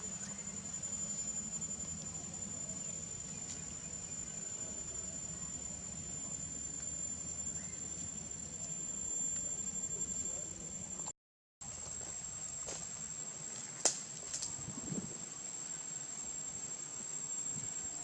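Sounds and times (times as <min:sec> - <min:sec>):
insects trilling: 0:00.0 - 0:18.0
low steady background hum: 0:00.0 - 0:18.0.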